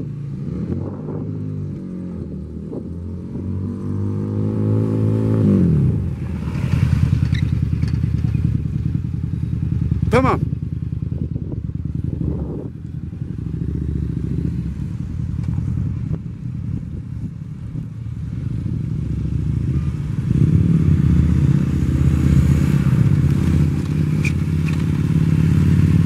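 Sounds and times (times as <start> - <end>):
motorcycle engine running: 4.8 - 26.0.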